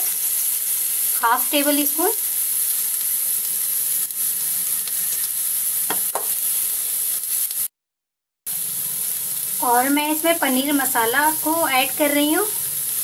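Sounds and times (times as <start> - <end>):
vegetables sizzling in oil: 0.0 - 7.7, 8.5 - 13.0.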